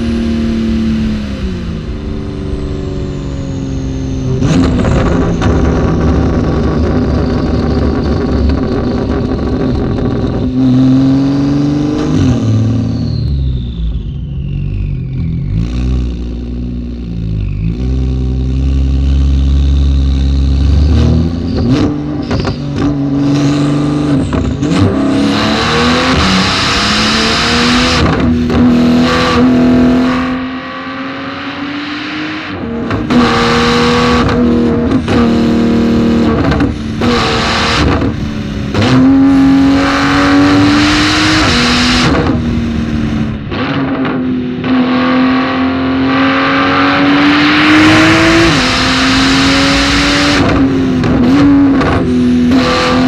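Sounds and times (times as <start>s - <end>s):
sports car engine revving: 0.0s - 13.1s, 14.5s - 53.0s.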